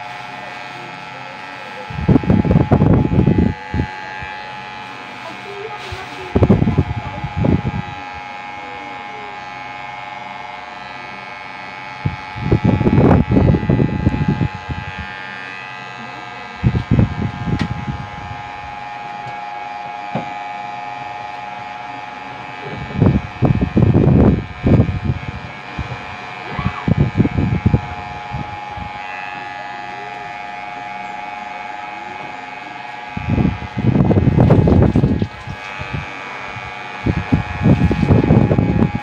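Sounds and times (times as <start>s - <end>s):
electric hair clipper buzzing: 0.0s - 39.0s.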